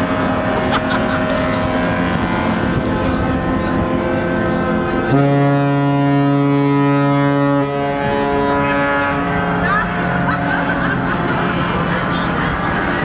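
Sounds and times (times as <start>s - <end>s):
loud deep horn: 0.0s - 12.4s
noisy background: 0.0s - 13.0s
ship horns sounding: 0.0s - 13.0s.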